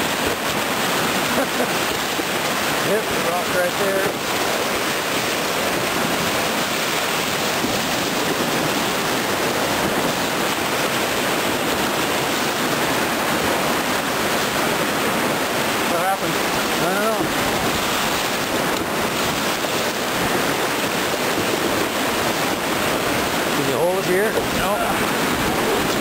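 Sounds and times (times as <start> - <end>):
whitewater rapids rushing: 0.0 - 26.0.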